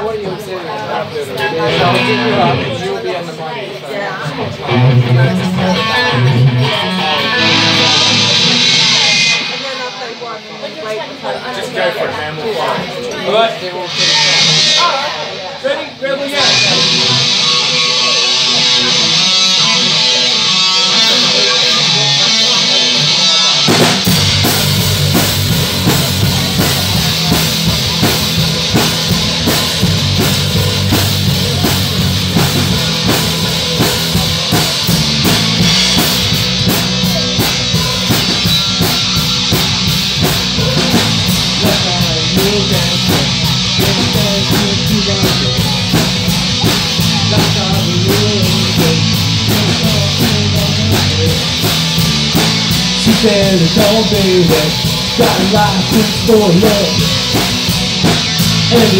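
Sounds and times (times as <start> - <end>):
electric guitars: 0.0 - 58.9
low bass notes: 1.5 - 2.8, 4.4 - 10.6, 16.4 - 58.9
drum kit beat: 1.7 - 2.7, 4.4 - 11.3, 13.9 - 15.4, 16.4 - 58.9.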